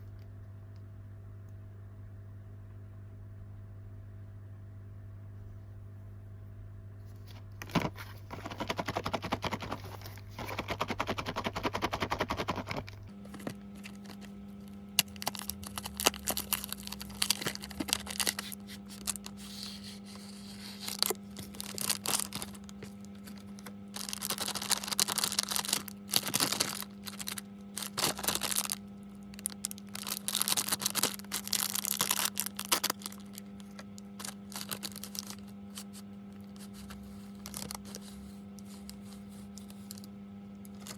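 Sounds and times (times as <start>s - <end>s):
faint electrical hum: 0.0s - 40.9s
plastic packaging crinkling: 7.6s - 40.9s.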